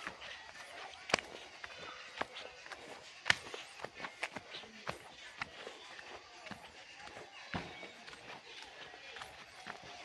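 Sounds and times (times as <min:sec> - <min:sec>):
footsteps walking: 0:00.0 - 0:10.0.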